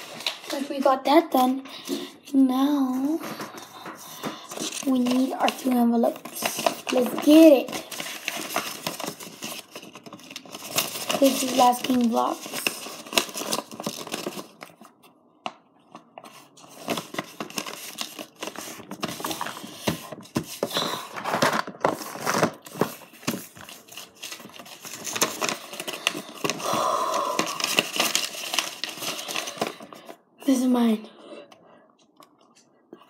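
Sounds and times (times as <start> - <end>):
paper rustling and crinkling: 0.0 - 15.1, 15.9 - 30.6.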